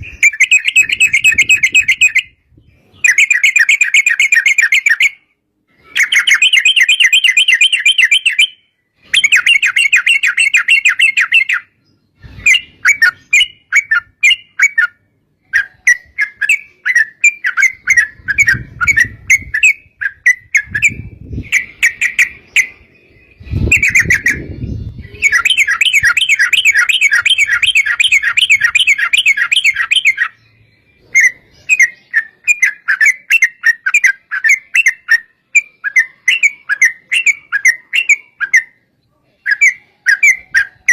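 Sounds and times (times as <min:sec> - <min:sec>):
chattering bird notes: 0:00.0 - 0:40.9
rapid rolling bird trills: 0:00.0 - 0:40.9.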